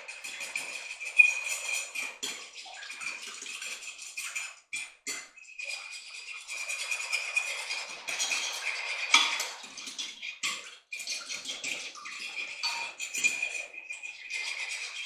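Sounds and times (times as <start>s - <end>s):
fork whisking in glass dish: 0.0s - 15.0s.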